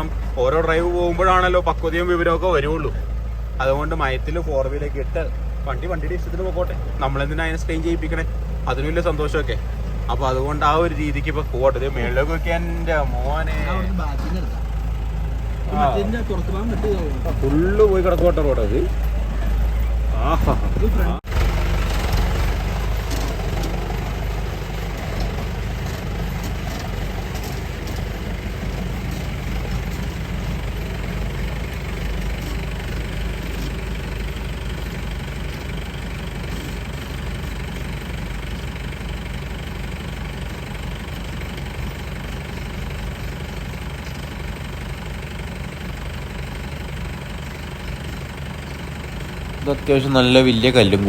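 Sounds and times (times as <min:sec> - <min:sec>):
engine running at low revs: 0:00.0 - 0:51.0.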